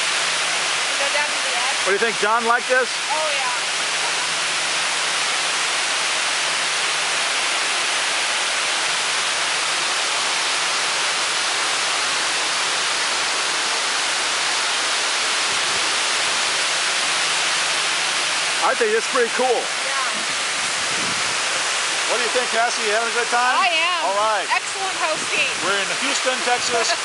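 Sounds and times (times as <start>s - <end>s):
fountain water cascading: 0.0s - 27.0s.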